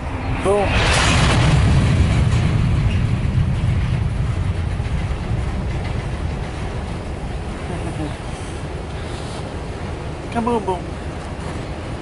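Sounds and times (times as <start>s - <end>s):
freight cars rolling: 0.0s - 12.0s.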